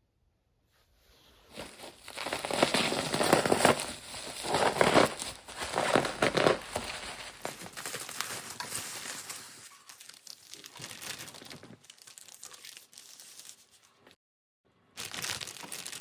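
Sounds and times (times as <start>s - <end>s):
plastic packaging crinkling: 1.5s - 14.0s, 15.0s - 16.0s.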